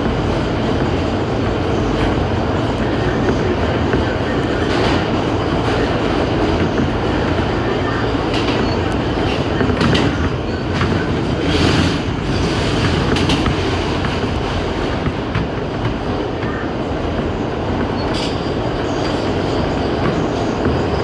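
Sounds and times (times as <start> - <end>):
train rumbling: 0.0 - 21.0
wheels clacking over rail joints: 0.0 - 21.0.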